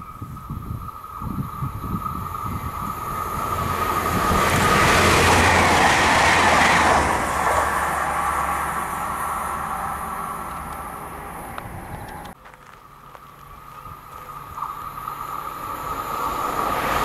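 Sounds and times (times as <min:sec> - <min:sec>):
train passing at speed: 0:00.7 - 0:12.4, 0:13.8 - 0:17.0.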